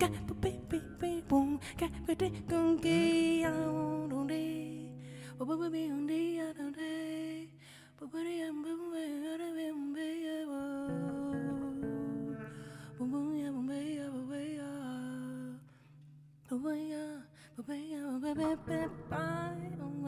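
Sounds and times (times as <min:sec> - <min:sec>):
woman singing without words: 0:00.0 - 0:20.0.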